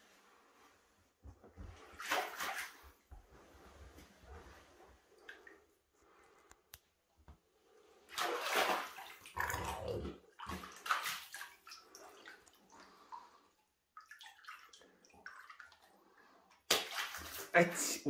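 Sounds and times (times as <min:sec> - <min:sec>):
water splashing and sloshing: 0:00.0 - 0:06.4, 0:07.6 - 0:18.0.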